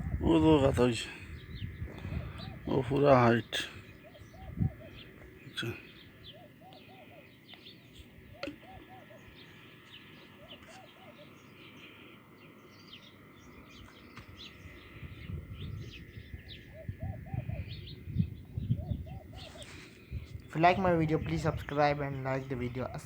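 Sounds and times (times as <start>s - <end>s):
doves cooing: 0.0s - 23.0s
small birds chirping: 0.0s - 23.0s.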